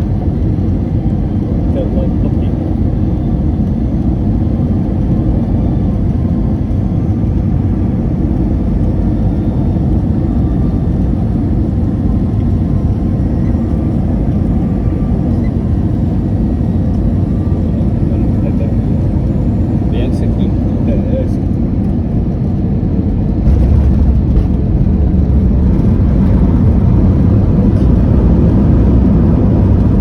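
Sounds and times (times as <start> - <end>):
airliner cabin engine drone: 0.0 - 30.0.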